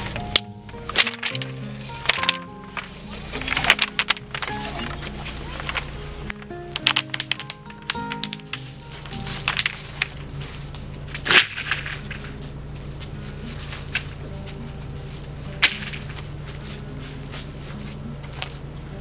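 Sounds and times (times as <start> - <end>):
pipes and ladder clattering: 0.0 - 18.6
footsteps crunching dry leaves: 0.0 - 18.7
low hum: 0.0 - 19.0.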